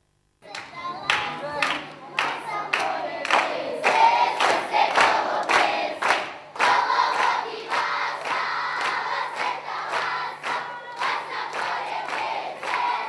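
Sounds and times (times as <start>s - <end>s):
hand-claps: 0.4s - 13.0s
group singing: 1.0s - 13.0s.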